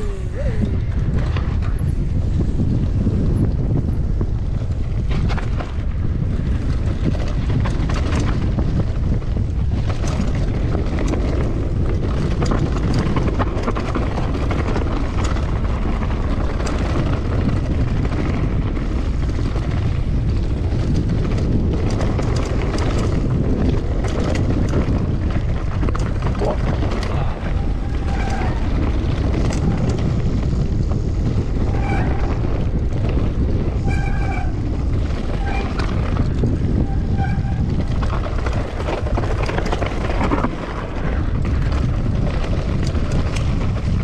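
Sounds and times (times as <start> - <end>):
bike knocking and rattling: 0.0 - 44.0
bike tyre rumble on dirt: 0.0 - 44.0
wind buffeting microphone: 0.0 - 44.0.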